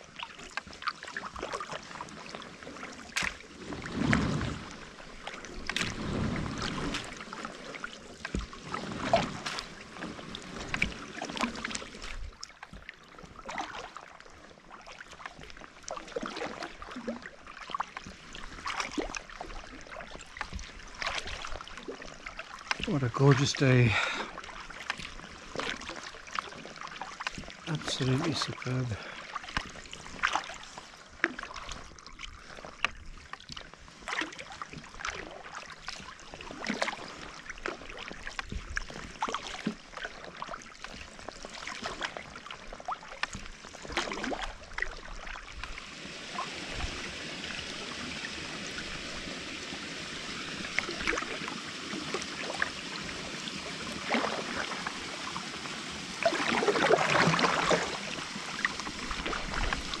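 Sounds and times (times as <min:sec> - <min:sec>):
kayak paddle splashing: 0:00.0 - 1:00.0
water trickling along hull: 0:00.0 - 1:00.0.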